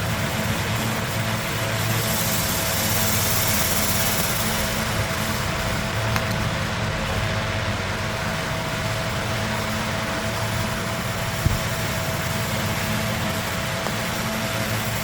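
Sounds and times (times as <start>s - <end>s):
constant machine whine: 0.0s - 15.0s
machine hum and hiss: 0.0s - 15.0s.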